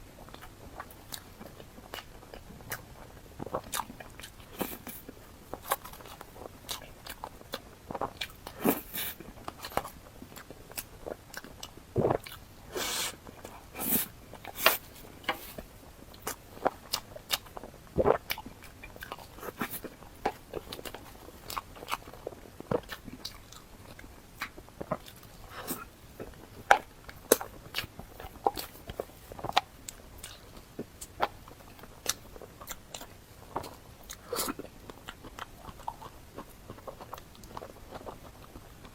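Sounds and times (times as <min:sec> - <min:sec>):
person chewing and crunching: 0:00.1 - 0:38.9.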